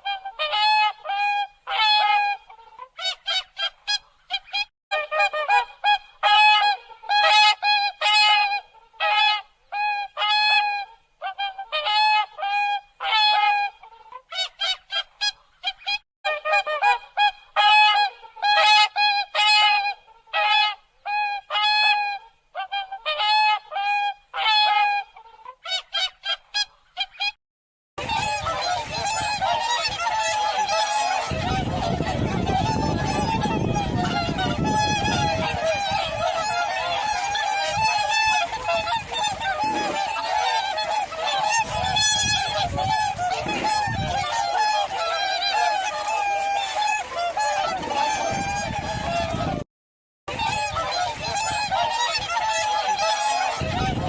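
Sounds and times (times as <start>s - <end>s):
swans honking: 0.0s - 27.4s, 28.0s - 49.6s, 50.3s - 54.0s.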